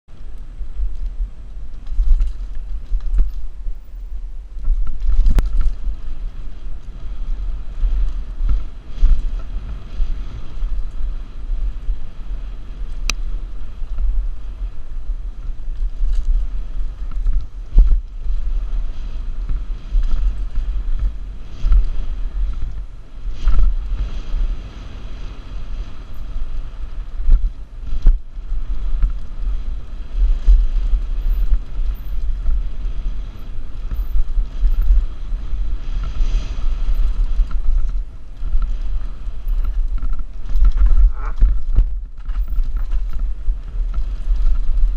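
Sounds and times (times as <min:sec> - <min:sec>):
mountain bike knocking and rattling: 0:00.1 - 0:44.9
wind buffeting a helmet camera: 0:00.1 - 0:44.9.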